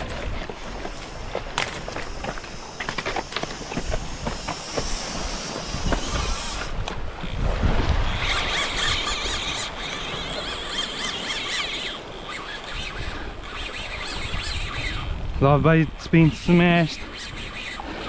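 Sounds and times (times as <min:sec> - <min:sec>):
fishing reel drag screaming: 0:00.0 - 0:18.0.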